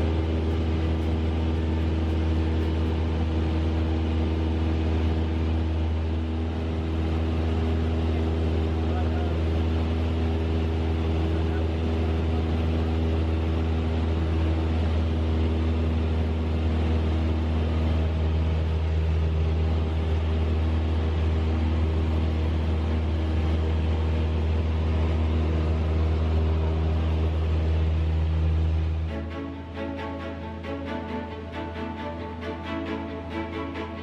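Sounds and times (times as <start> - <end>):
light airplane engine drone: 0.0 - 34.0.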